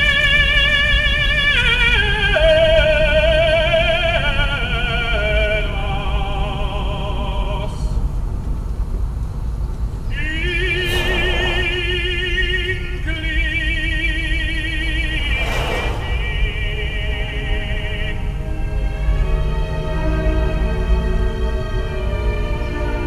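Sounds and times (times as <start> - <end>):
operatic singing: 0.0 - 8.0, 10.1 - 23.0.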